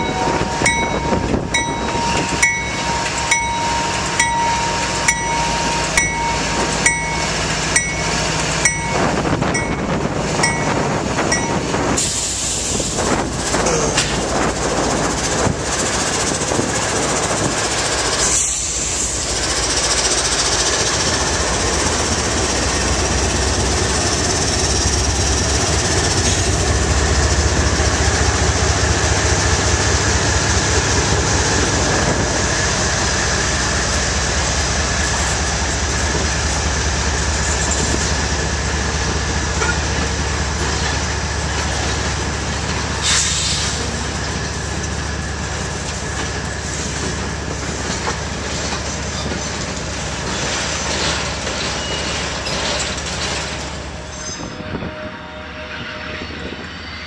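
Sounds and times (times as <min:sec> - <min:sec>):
train wheels clattering on rails: 0:00.0 - 0:54.8
diesel locomotive engines rumbling: 0:00.0 - 0:57.0.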